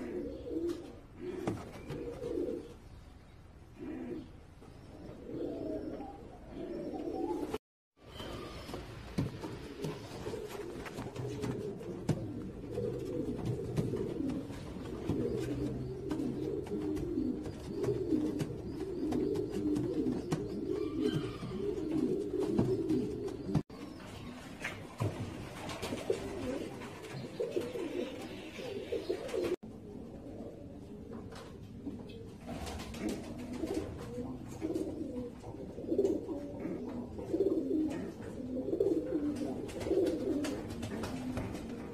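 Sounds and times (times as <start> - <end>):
pigeons cooing: 0.0 - 3.0, 3.7 - 41.9.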